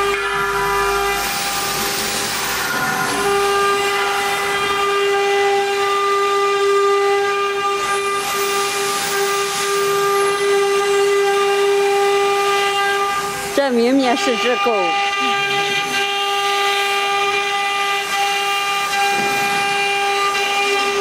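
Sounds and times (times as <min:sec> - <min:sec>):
router spindle high whine: 0:00.0 - 0:21.0
bit cutting wood hiss: 0:00.3 - 0:21.0.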